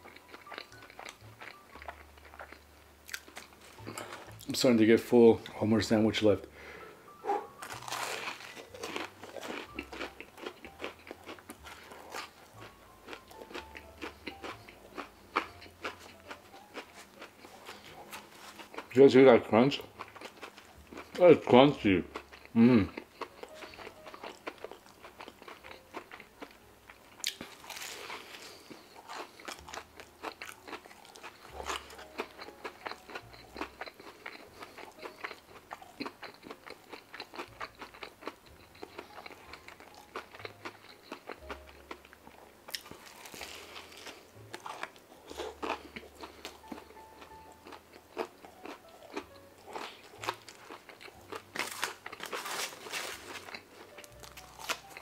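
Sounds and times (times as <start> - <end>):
crunchy chewing: 0.0 - 4.6, 7.2 - 19.0, 19.7 - 55.0.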